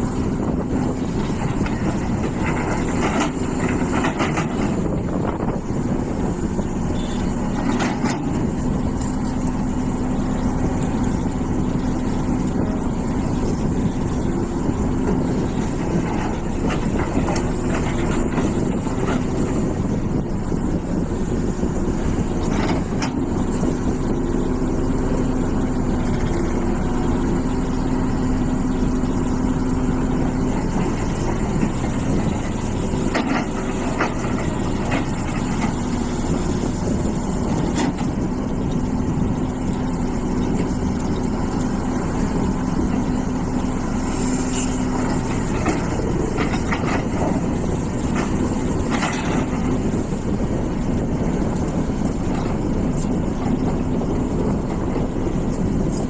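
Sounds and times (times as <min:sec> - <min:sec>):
excavator engine running: 0:00.0 - 0:56.0
pitched hum: 0:00.0 - 0:56.0.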